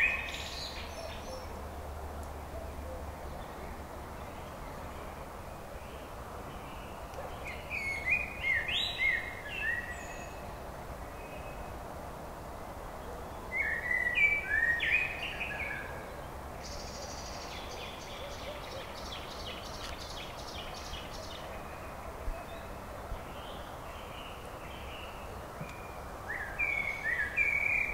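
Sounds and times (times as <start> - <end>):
background hiss: 0.0 - 27.9
songbirds singing: 0.0 - 27.9.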